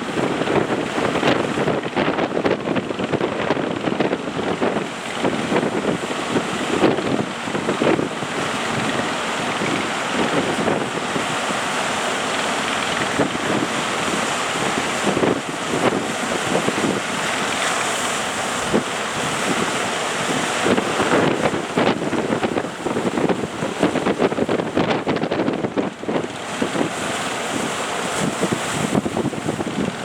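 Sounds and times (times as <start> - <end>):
surf rushing: 0.0 - 30.0
wind buffeting microphone: 0.0 - 30.0.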